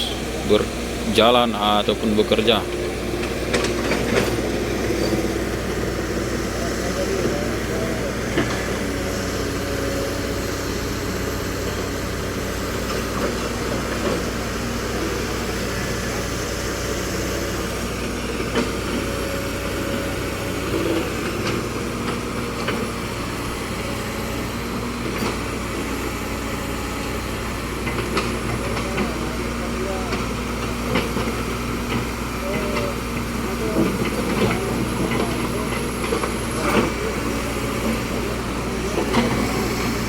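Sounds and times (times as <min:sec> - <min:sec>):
heavy machine engine hum: 0:00.0 - 0:40.0.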